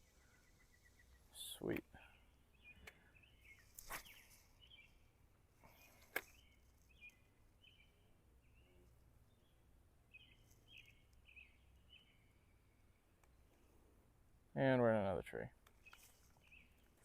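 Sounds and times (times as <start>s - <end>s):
bird chirps: 0.0s - 13.2s, 15.7s - 17.0s.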